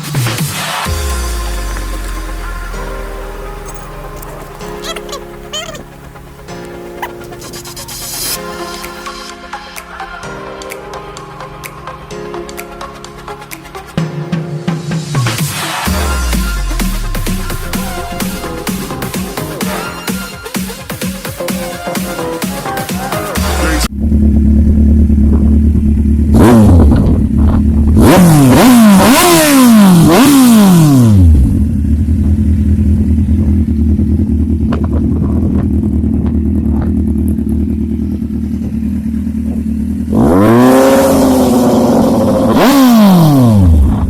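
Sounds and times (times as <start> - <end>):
motorcycle engine idling and revving: 0.0 - 14.0, 15.1 - 44.0.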